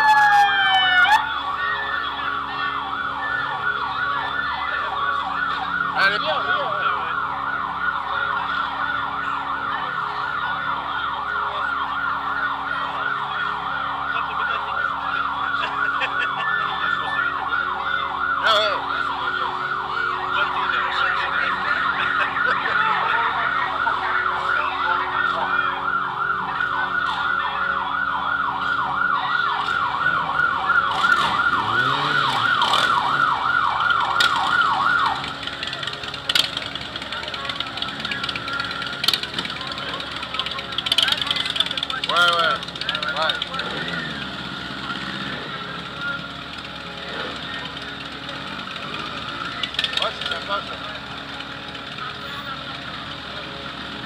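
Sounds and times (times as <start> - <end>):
electronic siren yelp: 0.0 - 51.1.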